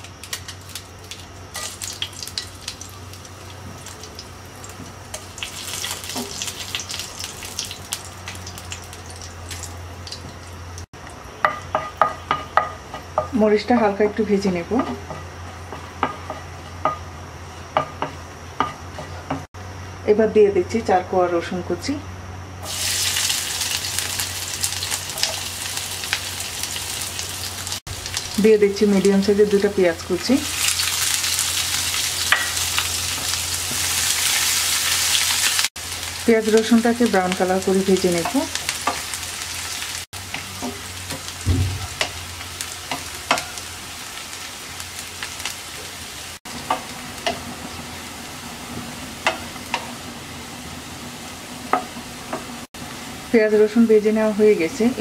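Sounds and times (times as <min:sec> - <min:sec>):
garlic sizzling in hot oil: 0:00.0 - 0:19.5, 0:22.6 - 0:55.0.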